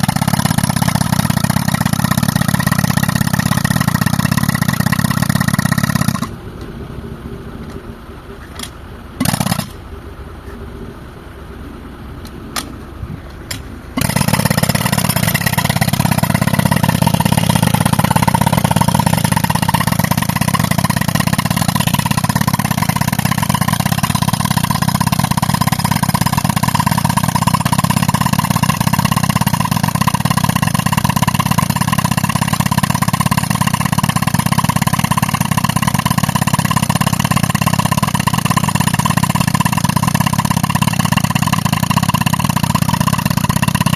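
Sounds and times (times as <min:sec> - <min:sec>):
pneumatic rock hammer: 0:00.0 - 0:06.4, 0:08.4 - 0:09.8, 0:12.5 - 0:43.9
low engine hum: 0:00.0 - 0:43.9.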